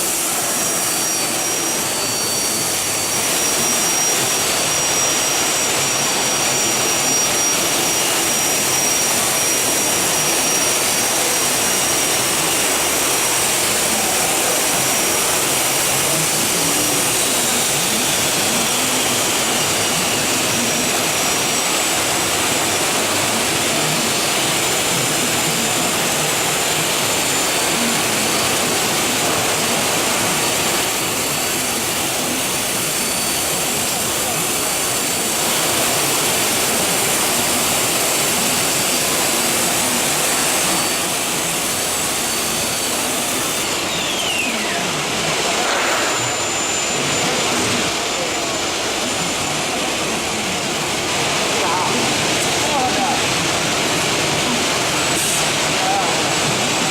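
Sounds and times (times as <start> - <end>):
faint falling whine: 0.0 - 56.8
machining centre running: 0.0 - 56.9.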